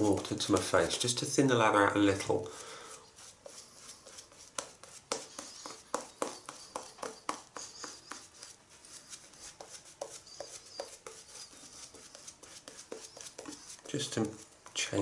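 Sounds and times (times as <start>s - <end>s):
wet shaving brush strokes: 0.0s - 1.0s, 2.8s - 15.0s.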